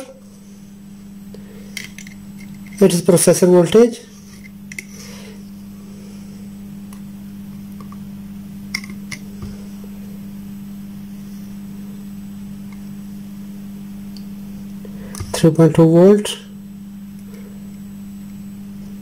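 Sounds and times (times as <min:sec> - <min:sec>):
low mains hum: 0:00.0 - 0:19.0.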